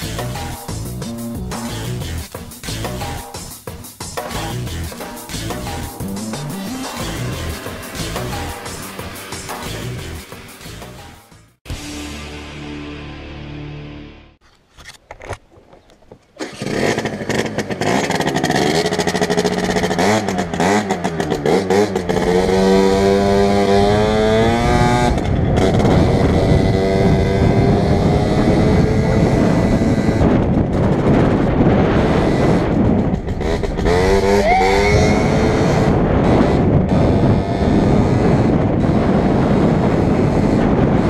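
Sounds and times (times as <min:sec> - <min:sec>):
motorcycle engine accelerating: 0:00.0 - 0:03.4, 0:04.2 - 0:13.4, 0:16.4 - 0:41.0.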